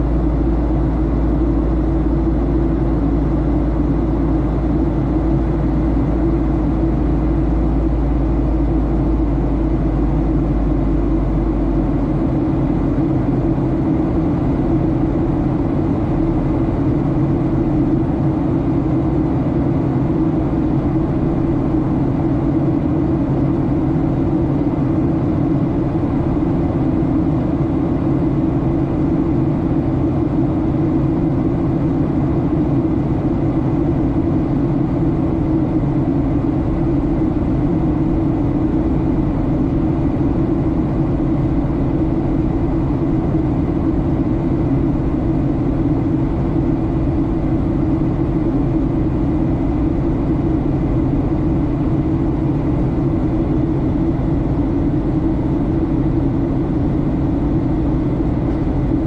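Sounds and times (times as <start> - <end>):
jet engine drone: 0.0 - 59.0.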